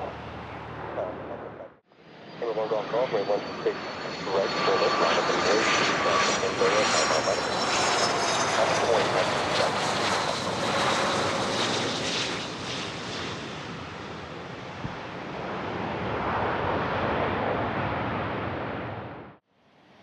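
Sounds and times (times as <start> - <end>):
jet engines roaring: 0.0 - 19.4.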